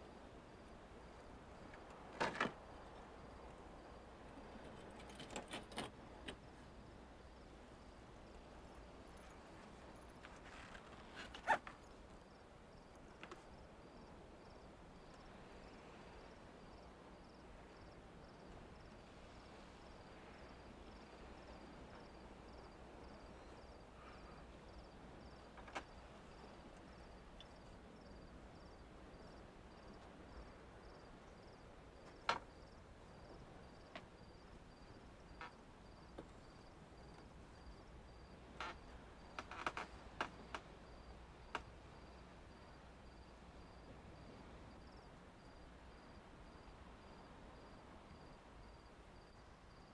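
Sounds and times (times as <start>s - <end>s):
faint crickets chirping: 0.0s - 49.9s.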